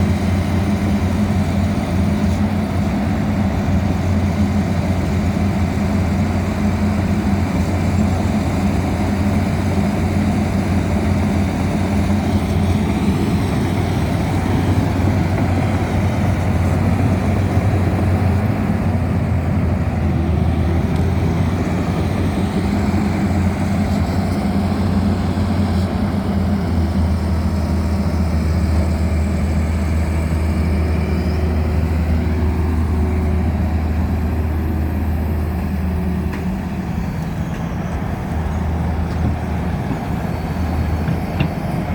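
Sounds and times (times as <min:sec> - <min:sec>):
excavator diesel engine idling: 0:00.0 - 0:41.9.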